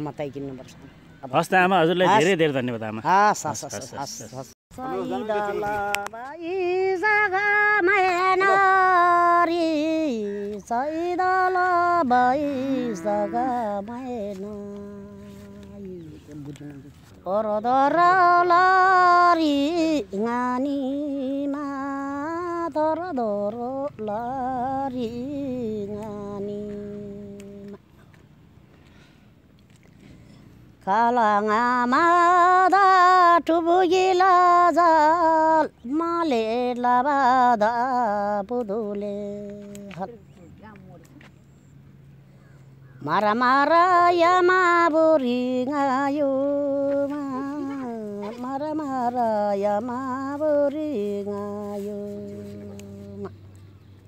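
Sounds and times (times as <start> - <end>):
woman singing unaccompanied: 4.7 - 28.0, 30.7 - 41.2, 41.8 - 54.0.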